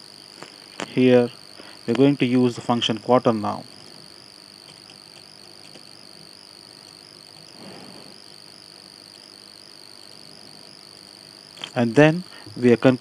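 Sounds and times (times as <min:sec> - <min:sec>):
high-pitched whine: 0:00.0 - 0:13.0
thin hiss: 0:00.0 - 0:13.0.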